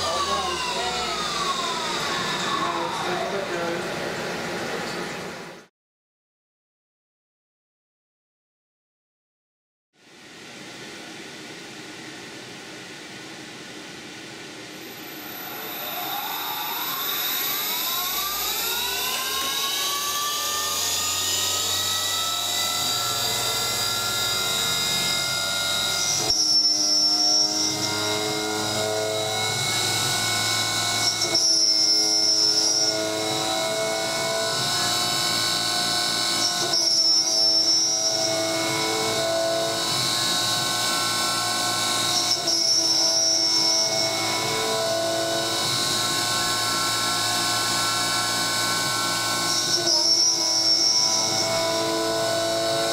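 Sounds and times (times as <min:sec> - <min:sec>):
end mill cutting metal: 0:00.0 - 0:05.5, 0:15.1 - 0:52.9
spindle motor whine: 0:00.0 - 0:05.7, 0:14.8 - 0:52.9.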